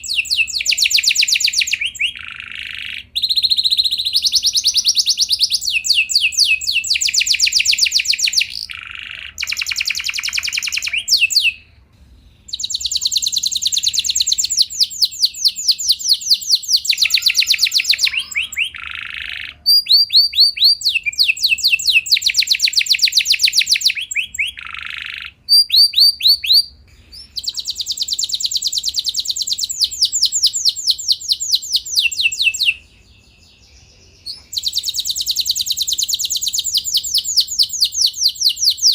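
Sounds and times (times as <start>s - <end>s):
canary singing rolling trills: 0.0s - 38.9s.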